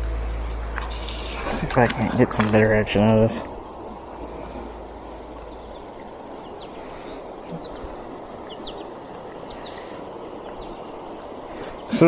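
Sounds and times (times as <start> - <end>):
stream flowing: 0.0 - 12.0
small birds chirping: 0.2 - 12.0.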